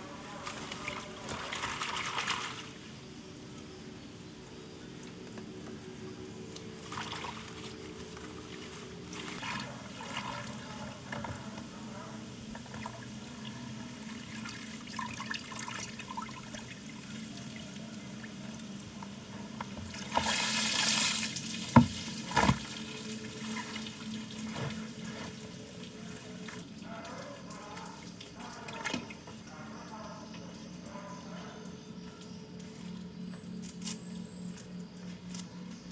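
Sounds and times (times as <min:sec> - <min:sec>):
water splashing and trickling: 0:00.0 - 0:03.4, 0:06.4 - 0:35.4.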